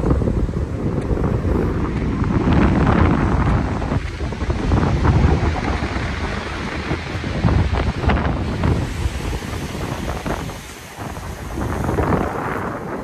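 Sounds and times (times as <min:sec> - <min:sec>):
surf on shingle beach: 0:00.0 - 0:13.0
wind buffeting microphone: 0:00.0 - 0:13.0.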